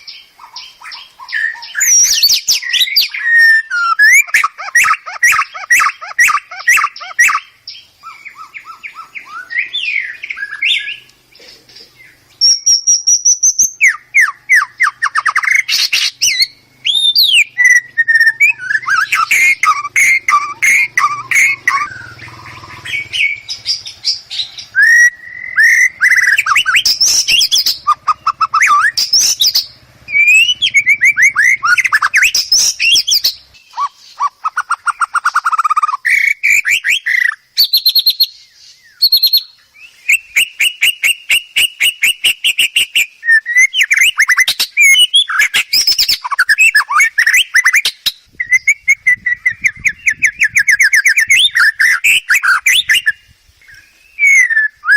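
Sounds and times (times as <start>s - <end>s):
bird singing whistles and trills: 0.0s - 54.9s.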